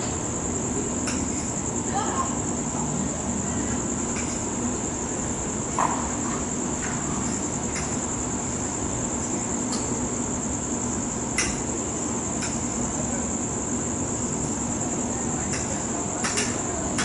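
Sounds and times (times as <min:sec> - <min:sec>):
crickets trilling: 0:00.0 - 0:17.0
low background noise: 0:00.0 - 0:17.0.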